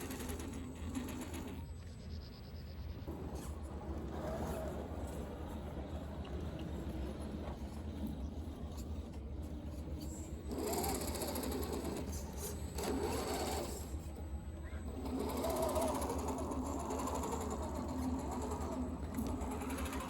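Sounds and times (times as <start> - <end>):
electric motor whining: 3.1 - 20.0.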